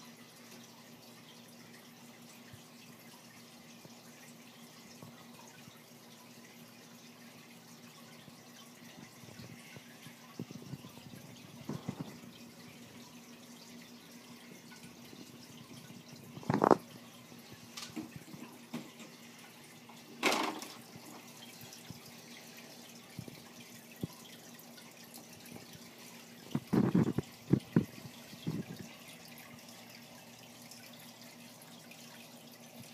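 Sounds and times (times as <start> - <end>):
faint motor hum: 0.0 - 32.9
water trickling: 0.0 - 32.9.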